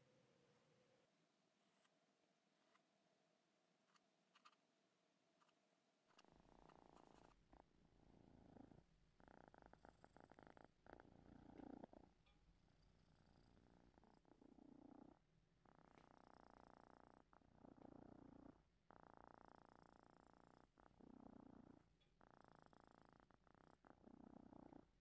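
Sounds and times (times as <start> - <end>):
cat purring: 1.6 - 2.9, 3.8 - 4.7, 5.3 - 25.0.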